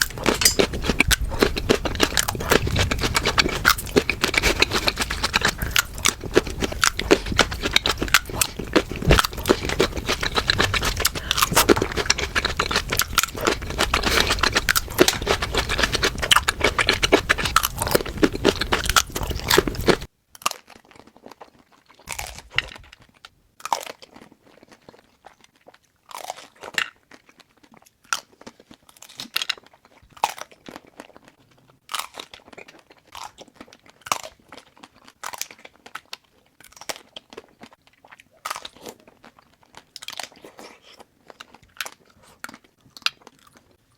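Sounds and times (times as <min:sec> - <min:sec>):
crunching and chewing: 0:00.0 - 0:43.9.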